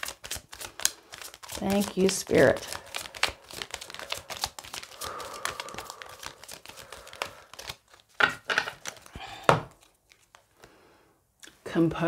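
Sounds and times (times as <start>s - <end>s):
cards being shuffled: 0.0s - 10.8s.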